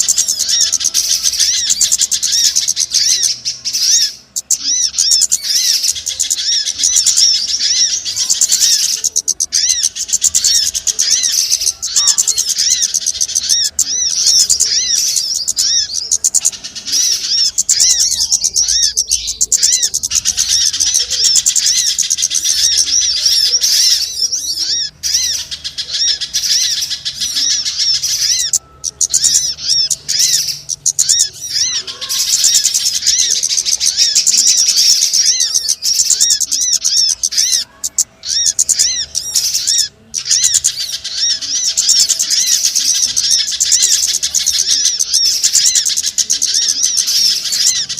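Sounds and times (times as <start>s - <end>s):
small birds chirping chorus: 0.0s - 47.9s.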